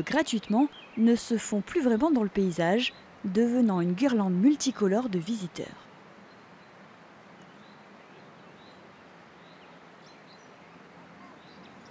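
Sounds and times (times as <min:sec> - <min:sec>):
soft outdoor hiss: 0:00.0 - 0:11.9.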